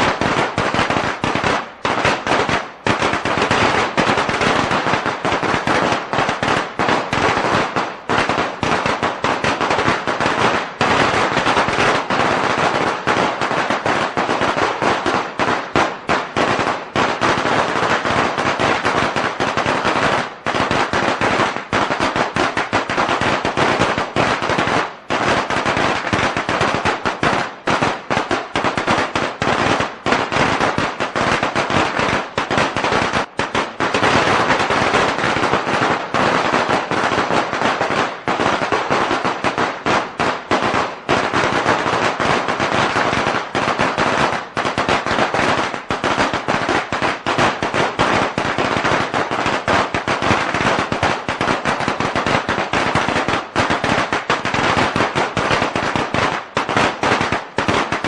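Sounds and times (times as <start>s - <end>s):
firecrackers banging rapidly: 0.0s - 58.0s.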